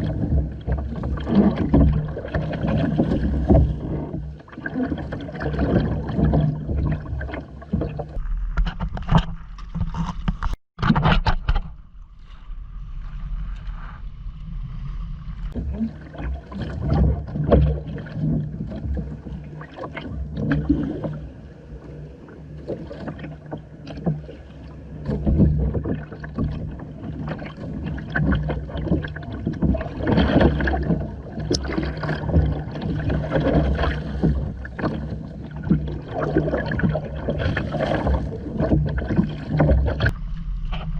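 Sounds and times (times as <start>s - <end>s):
water splashing against hull: 0.0s - 40.9s.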